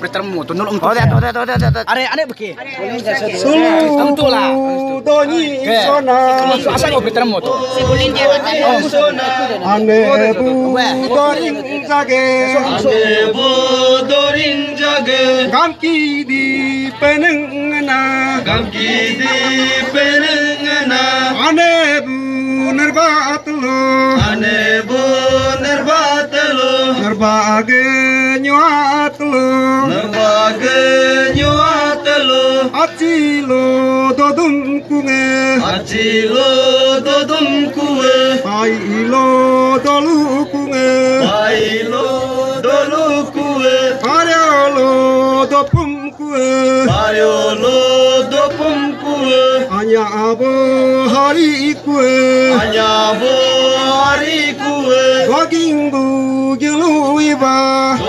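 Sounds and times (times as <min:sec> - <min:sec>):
man chanting: 0:00.0 - 0:02.0, 0:03.2 - 0:58.0.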